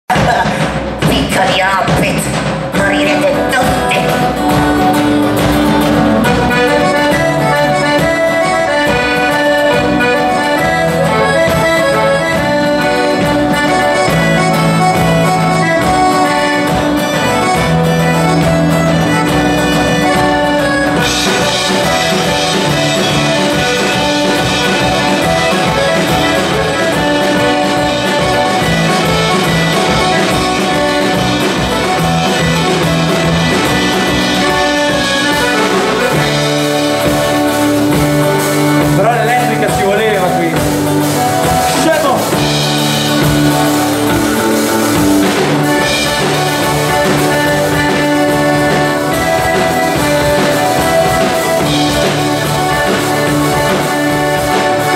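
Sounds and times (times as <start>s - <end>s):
accordion: 0.1s - 54.9s
strummed acoustic guitars: 0.1s - 54.9s.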